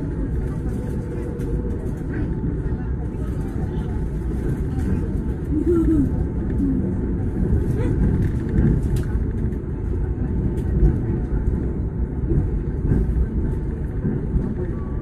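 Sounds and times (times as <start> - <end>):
train rumbling along rails: 0.0 - 15.0.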